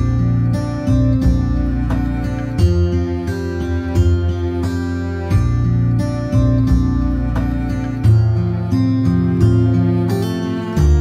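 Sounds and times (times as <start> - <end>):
plucked string music with bass: 0.0 - 11.0.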